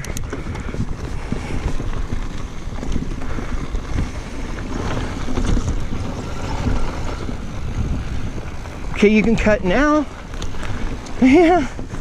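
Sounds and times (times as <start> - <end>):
mountain bike rolling on dirt: 0.0 - 12.0
small clicks and rattles: 0.0 - 12.0
wind on microphone: 0.0 - 12.0.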